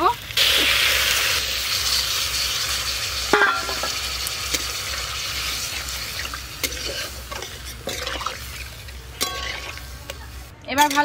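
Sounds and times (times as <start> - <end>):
liquid sizzling in hot pan: 0.0 - 10.5
metal spatula scraping wok: 1.6 - 11.0.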